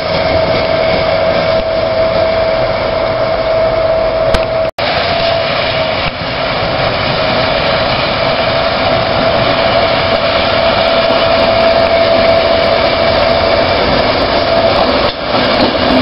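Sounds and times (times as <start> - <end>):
diesel locomotive running: 0.0 - 16.0.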